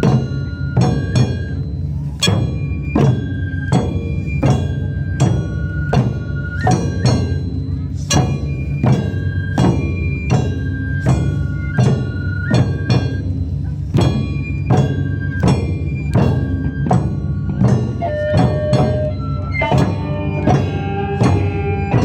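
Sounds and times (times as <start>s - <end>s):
taiko drums beating: 0.0s - 22.0s.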